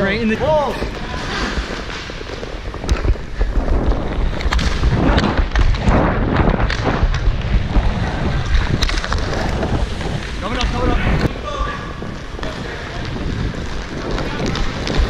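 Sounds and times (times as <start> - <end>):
inline skates rolling: 0.0 - 15.0.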